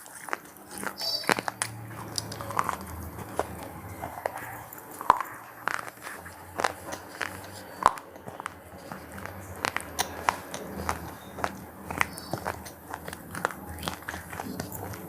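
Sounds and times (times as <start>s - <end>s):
crunchy snacks being chewed: 0.0s - 15.0s.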